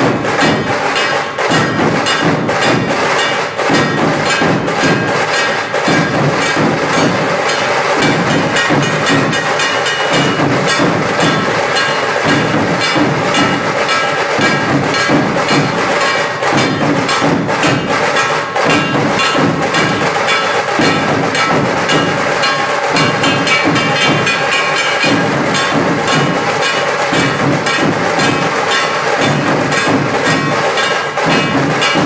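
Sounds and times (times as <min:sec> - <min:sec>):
barrel drums beaten: 0:00.0 - 0:32.0
rattle of snare drums: 0:00.0 - 0:32.0.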